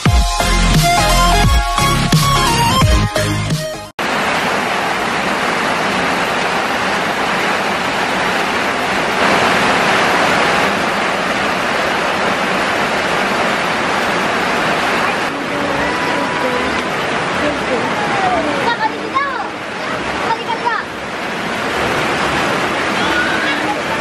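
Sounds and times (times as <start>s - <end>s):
heavy rain on metal roof: 4.0s - 24.0s.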